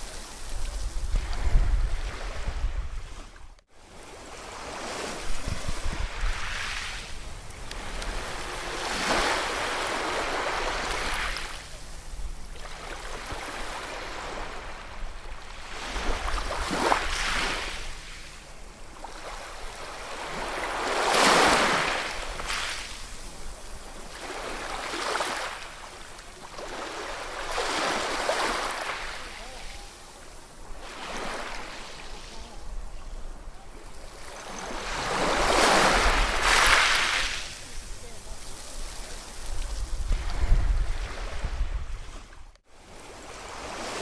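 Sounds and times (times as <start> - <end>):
ocean waves breaking on shore: 0.0 - 44.0.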